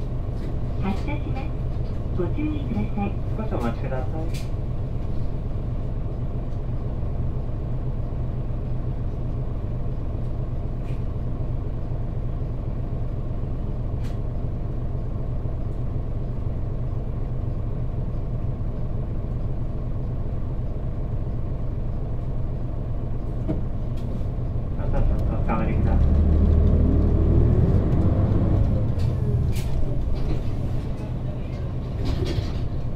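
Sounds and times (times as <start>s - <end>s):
diesel bus engine idling: 0.0s - 32.9s.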